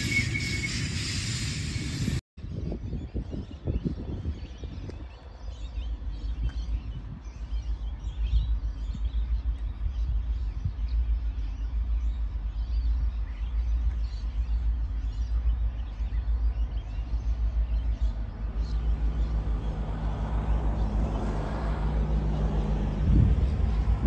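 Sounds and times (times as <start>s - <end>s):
low rumble: 1.6s - 24.0s
birds chirping: 2.4s - 24.0s.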